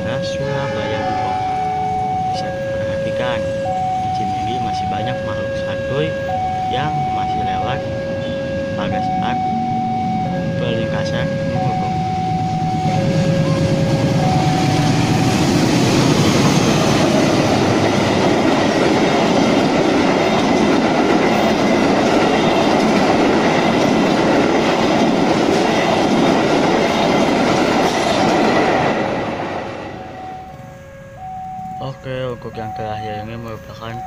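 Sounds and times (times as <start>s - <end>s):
level crossing warning bell: 0.0s - 34.0s
passenger train passing at speed: 0.0s - 34.0s.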